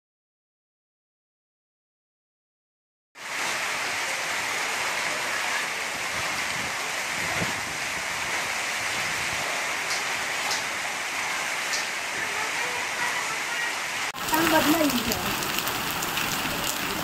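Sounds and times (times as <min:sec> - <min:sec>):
heavy rain on tiled ground: 0:03.2 - 0:17.0.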